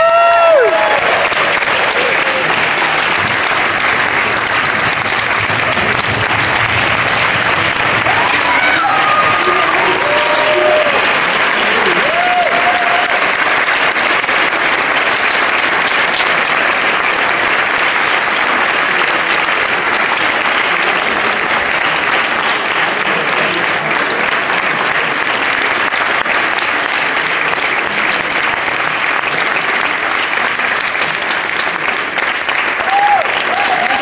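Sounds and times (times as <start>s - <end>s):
audience applauding: 0.0s - 34.0s.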